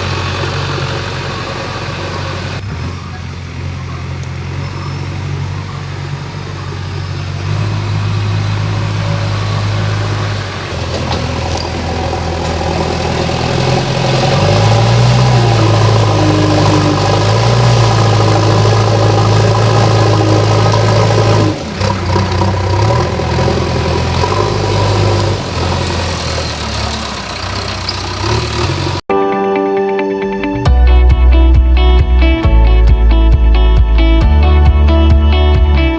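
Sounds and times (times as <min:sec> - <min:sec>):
diesel engine running under load: 0:00.0 - 0:29.1.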